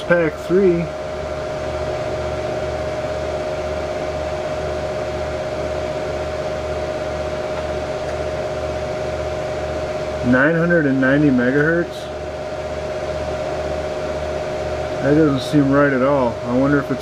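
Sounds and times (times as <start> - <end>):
computer cooling fans whirring: 0.0 - 17.0.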